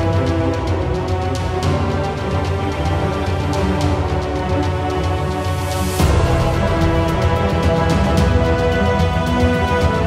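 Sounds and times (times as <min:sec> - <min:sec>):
steady percussion beat: 0:00.0 - 0:10.0.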